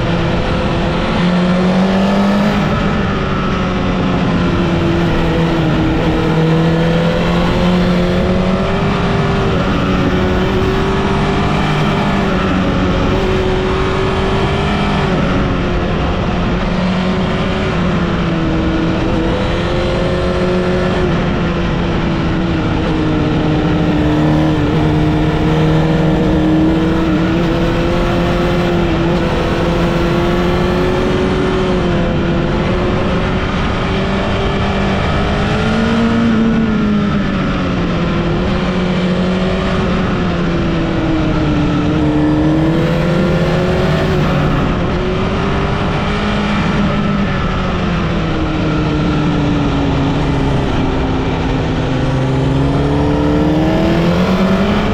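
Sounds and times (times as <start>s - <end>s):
motorcycle engine accelerating: 0.0s - 54.9s
wind and road noise: 0.0s - 54.9s.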